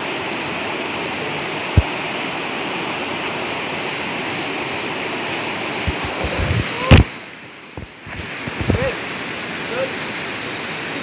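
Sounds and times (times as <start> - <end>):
faint high whine: 0.0 - 11.0
river water rushing: 0.0 - 11.0.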